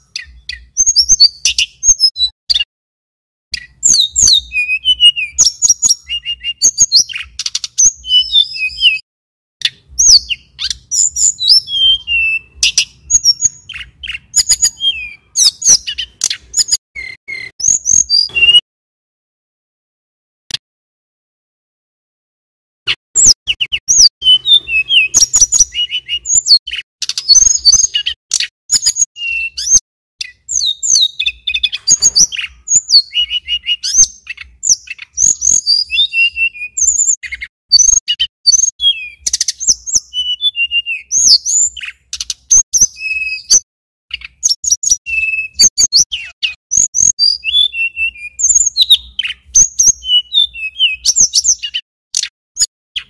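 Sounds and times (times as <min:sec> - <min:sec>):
bird singing high whistled notes: 0:00.0 - 0:02.7, 0:03.5 - 0:09.0, 0:09.6 - 0:18.6, 0:23.2 - 0:53.0.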